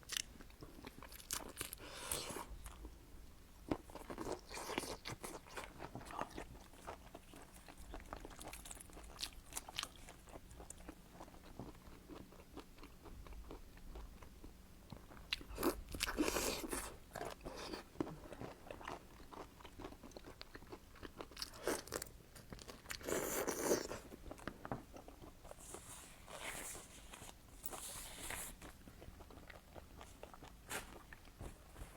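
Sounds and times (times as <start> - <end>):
person chewing and crunching: 0.0 - 2.9, 3.7 - 31.8.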